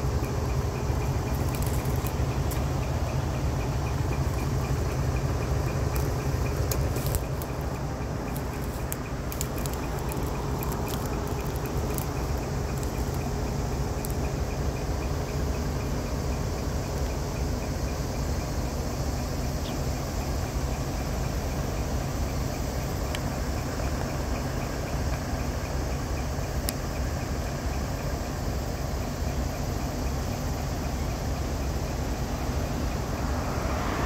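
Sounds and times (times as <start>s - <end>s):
faint regular ticking: 0.0s - 33.4s
truck engine idling: 0.0s - 34.0s.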